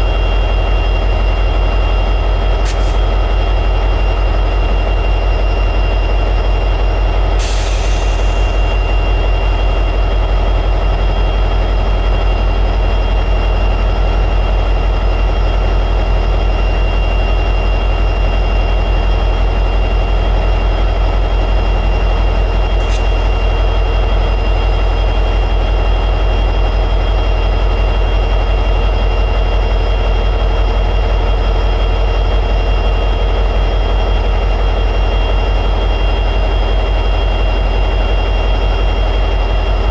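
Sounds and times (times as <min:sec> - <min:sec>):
diesel locomotive engine idling: 0:00.0 - 0:39.9
high steady whine: 0:00.0 - 0:39.9.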